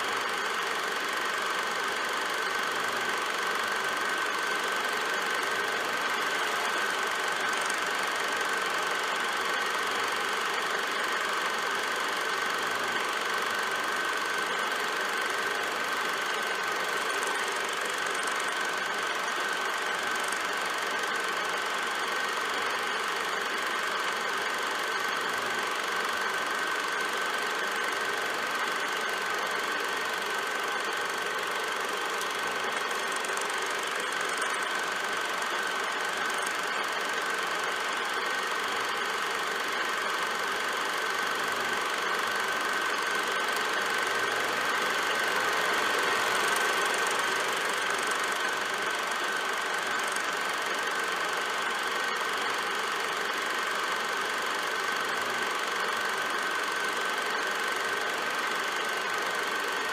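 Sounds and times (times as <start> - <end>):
film projector running: 0.0 - 59.9.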